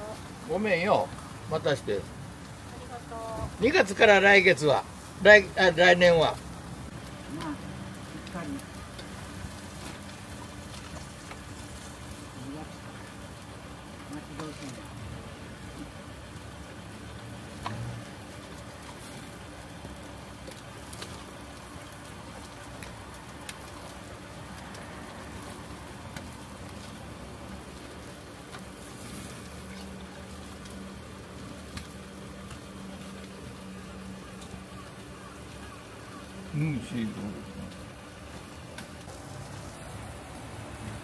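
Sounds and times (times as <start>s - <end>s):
meat sizzling on a grill: 0.0s - 41.0s.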